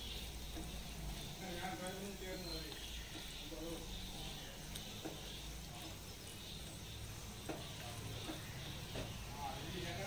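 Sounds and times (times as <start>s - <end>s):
faint sizzling: 0.0s - 10.0s.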